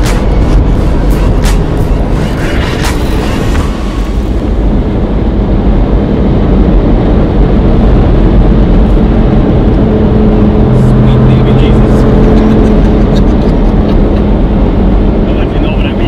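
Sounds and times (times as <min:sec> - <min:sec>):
car engine from inside cabin: 0:00.0 - 0:16.0
road noise: 0:00.0 - 0:16.0.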